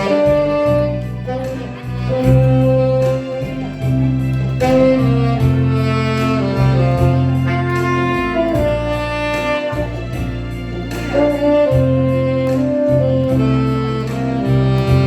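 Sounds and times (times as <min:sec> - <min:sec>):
backing track with bass and beat: 0:00.0 - 0:15.0
saxophone melody: 0:00.0 - 0:15.0.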